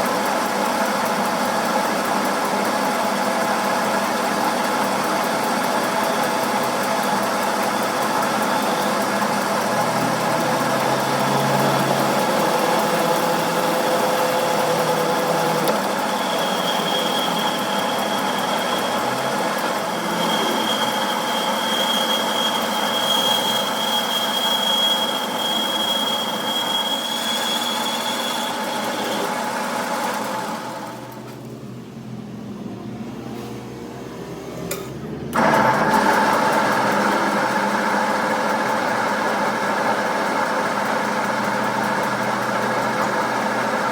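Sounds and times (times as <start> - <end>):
machine running with steady tones: 0.0 - 43.9.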